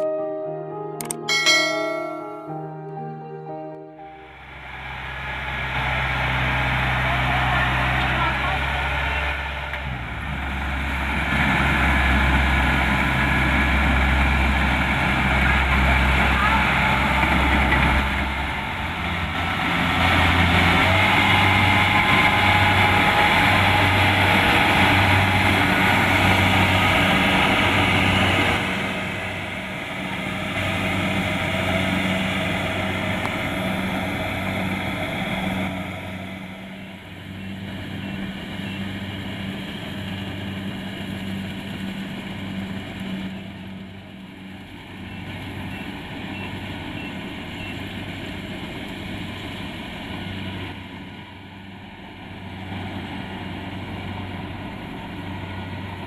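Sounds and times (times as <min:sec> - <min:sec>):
diesel engine running: 0:04.2 - 0:56.0.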